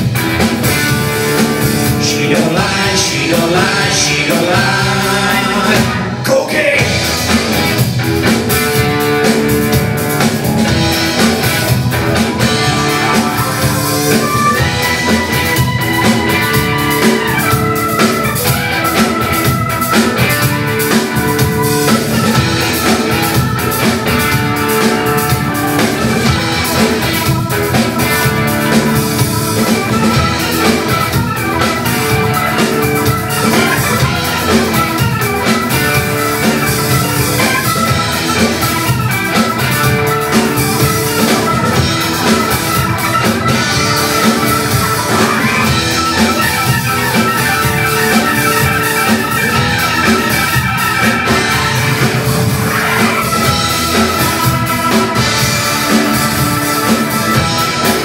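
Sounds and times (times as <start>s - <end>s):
bass: 0.0s - 58.0s
drum kit steady beat: 0.0s - 58.0s
electric guitar: 0.0s - 58.0s
keyboard: 0.0s - 58.0s.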